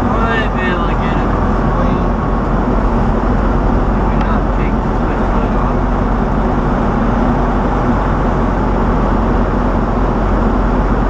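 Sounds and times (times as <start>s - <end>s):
vehicle engine and road drone: 0.0s - 11.0s.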